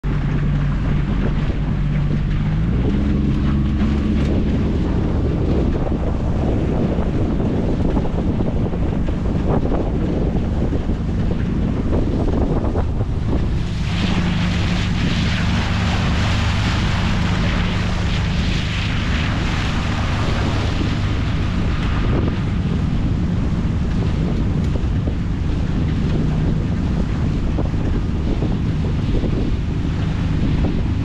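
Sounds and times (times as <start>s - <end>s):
boat engine droning: 0.0s - 31.0s
water rushing along hull: 0.0s - 31.0s
wind buffeting microphone: 0.0s - 31.0s.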